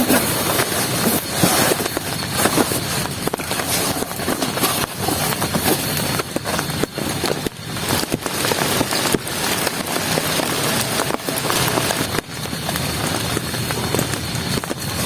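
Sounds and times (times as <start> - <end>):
heavy rain: 0.0 - 15.0
raindrops striking close by: 0.0 - 15.0.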